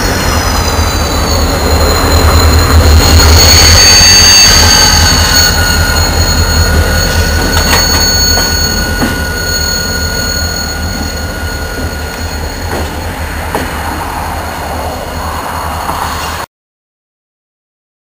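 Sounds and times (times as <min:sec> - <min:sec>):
deep train rumble: 0:00.0 - 0:16.5
train wheels squealing: 0:00.0 - 0:16.5.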